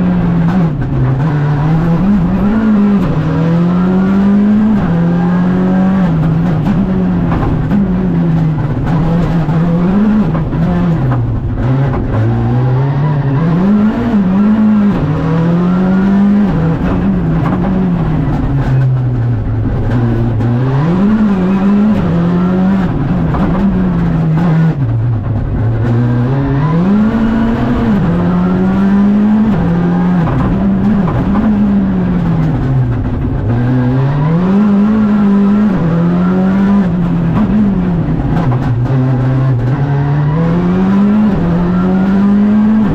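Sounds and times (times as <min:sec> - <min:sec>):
rally car engine shifting gears: 0:00.0 - 0:42.9.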